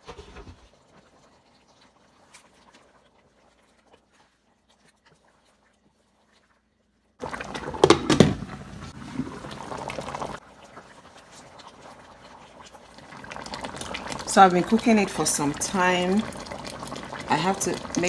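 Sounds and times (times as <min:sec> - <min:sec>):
sauce simmering and bubbling: 0:00.1 - 0:18.0.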